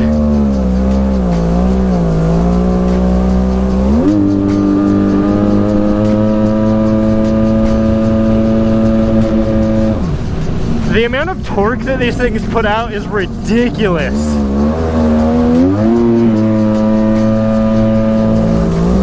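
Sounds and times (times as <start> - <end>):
jet ski engine revving: 0.0 - 19.0.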